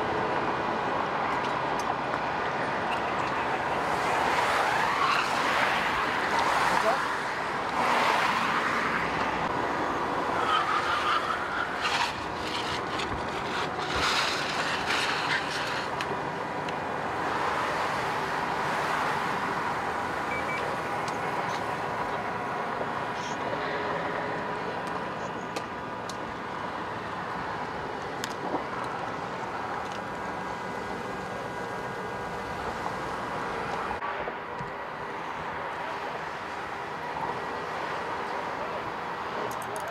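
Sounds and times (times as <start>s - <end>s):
freeway traffic rushing: 0.0s - 39.9s.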